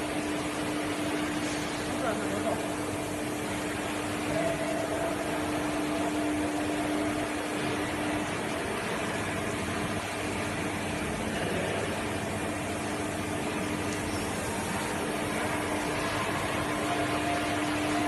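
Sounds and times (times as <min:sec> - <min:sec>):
machine whirring with hum: 0:00.0 - 0:18.0.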